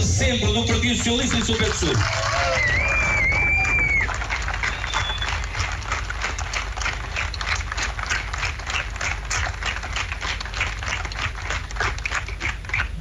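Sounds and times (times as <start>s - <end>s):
crowd applauding: 0.5s - 13.0s.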